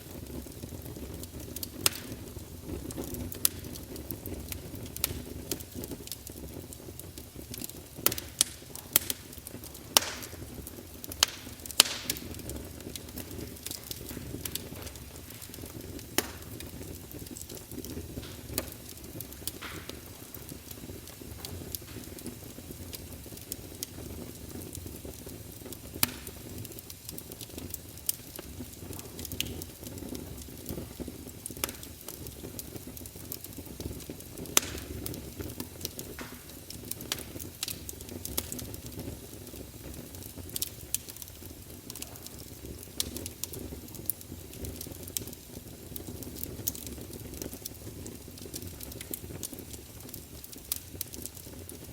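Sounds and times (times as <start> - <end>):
logs crackling and popping: 0.0 - 51.9
low rumble of flames: 0.0 - 51.9.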